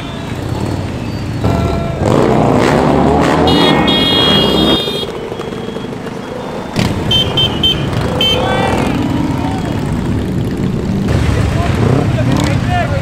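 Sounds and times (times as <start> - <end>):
motorcycles revving passing by: 0.0 - 13.0.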